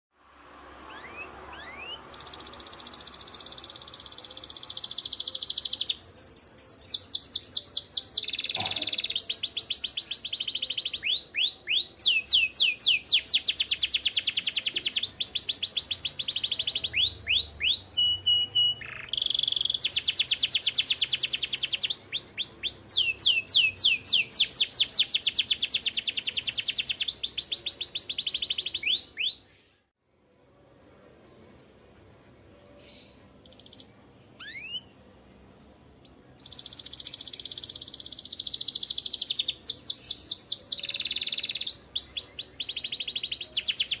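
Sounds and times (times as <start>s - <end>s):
canary singing: 0.8s - 29.7s, 32.6s - 35.0s, 35.6s - 44.0s.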